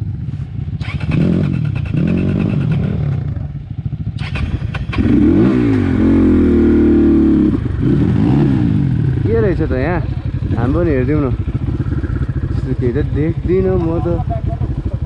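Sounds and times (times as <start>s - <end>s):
dirt bike engine revving: 0.8s - 15.0s.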